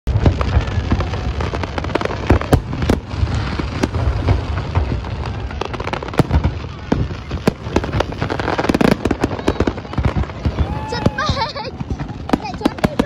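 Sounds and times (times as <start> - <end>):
fireworks bursting with sharp bangs: 0.1 - 13.0.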